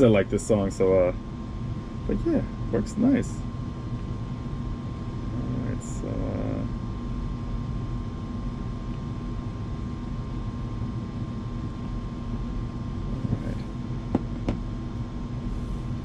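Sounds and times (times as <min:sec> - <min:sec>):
furnace humming: 0:00.0 - 0:16.0.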